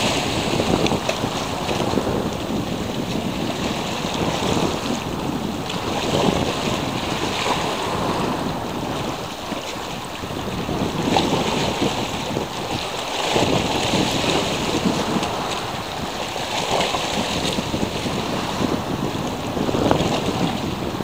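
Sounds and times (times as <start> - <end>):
sea waves washing: 0.0 - 21.0
wind buffeting microphone: 0.0 - 21.0.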